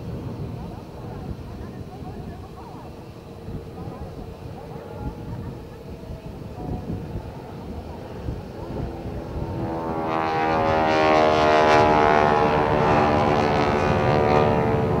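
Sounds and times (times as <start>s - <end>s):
biplane engine droning: 0.0s - 15.0s.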